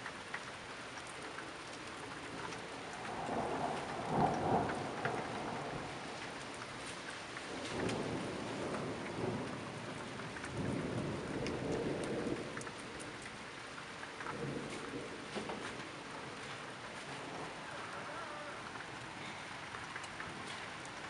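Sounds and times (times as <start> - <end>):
raindrops ticking: 0.0 - 21.0
steady rain: 0.0 - 21.0
thunder rumbling: 2.6 - 21.0.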